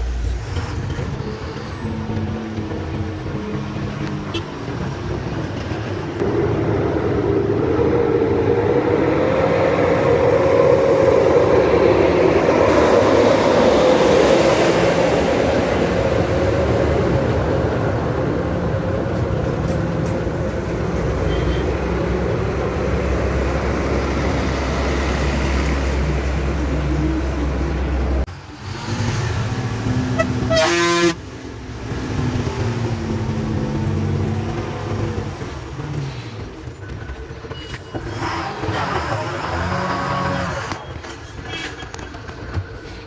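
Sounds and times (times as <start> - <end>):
lorry diesel engine passing: 0.0 - 36.7
vehicle cab engine and road noise: 0.0 - 43.0.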